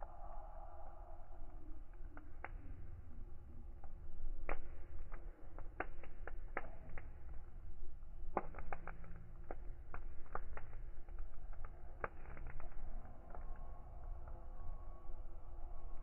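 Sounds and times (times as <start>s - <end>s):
low steady rumble of fire: 0.0s - 16.0s
wood fire crackling: 1.2s - 16.0s.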